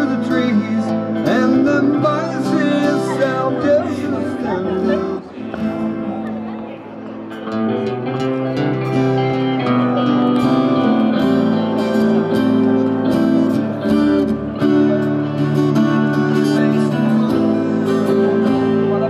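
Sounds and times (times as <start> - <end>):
acoustic guitar accompaniment: 0.0 - 19.0
electric guitar: 0.0 - 19.0.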